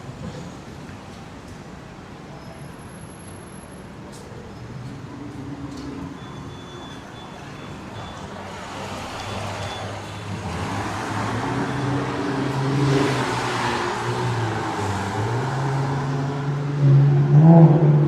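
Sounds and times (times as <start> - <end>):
background traffic: 0.0 - 18.0.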